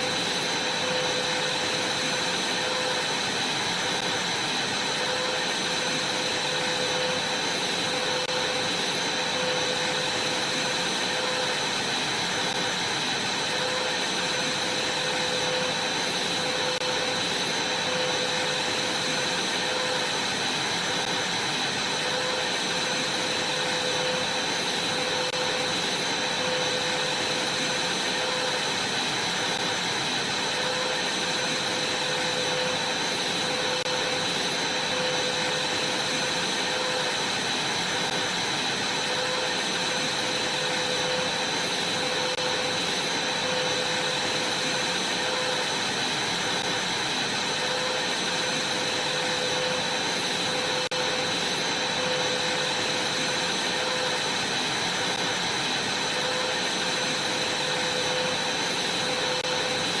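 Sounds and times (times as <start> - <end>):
vacuum cleaner running: 0.0 - 60.0.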